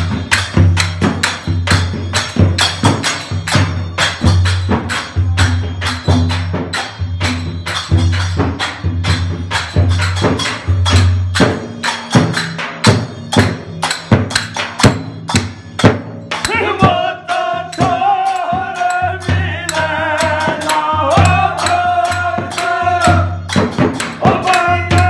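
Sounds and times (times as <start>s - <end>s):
frame drums beaten fast: 0.0s - 25.0s.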